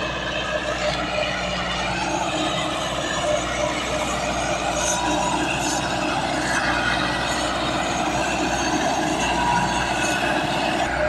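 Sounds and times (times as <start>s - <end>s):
heavy machine running: 0.0s - 11.0s
metallic rattling and squealing: 0.0s - 11.0s.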